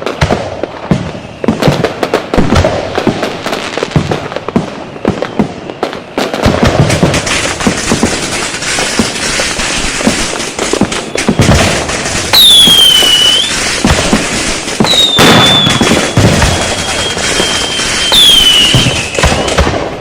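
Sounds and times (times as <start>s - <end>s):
whistling firework falling in pitch: 0.0s - 9.8s, 10.4s - 20.0s
firecrackers bursting: 0.0s - 20.0s.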